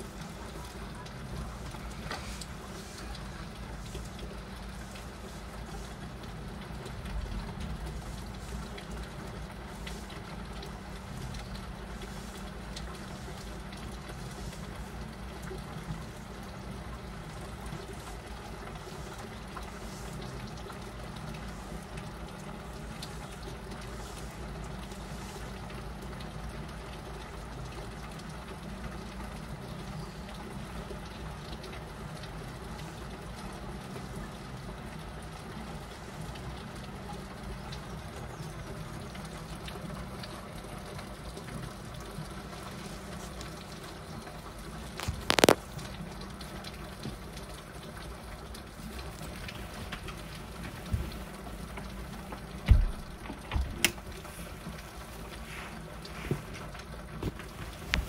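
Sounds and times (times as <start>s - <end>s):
heavy rain on window glass: 0.0s - 58.0s.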